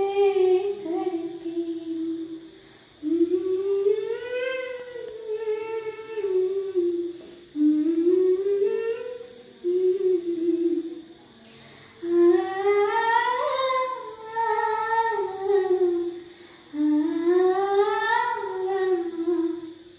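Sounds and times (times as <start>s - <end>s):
woman humming a melody: 0.0s - 19.9s.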